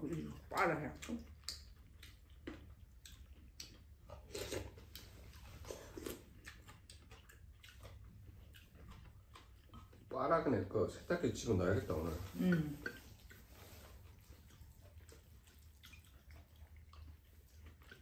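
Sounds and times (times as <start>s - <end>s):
people chewing: 0.0s - 18.0s.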